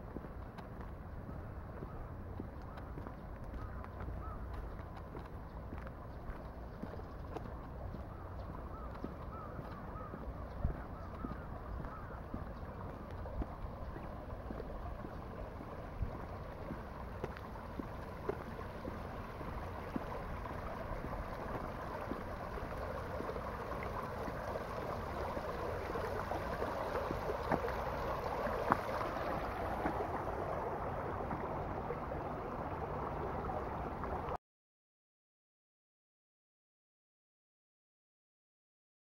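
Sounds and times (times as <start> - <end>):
stream flowing over rocks: 0.0 - 34.4.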